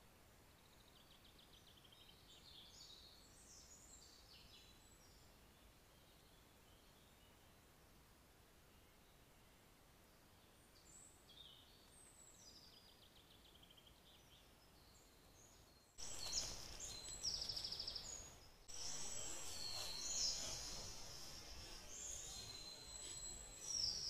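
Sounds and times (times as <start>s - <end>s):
songbirds singing: 0.0s - 7.7s, 8.5s - 24.0s
background hiss: 0.0s - 24.0s.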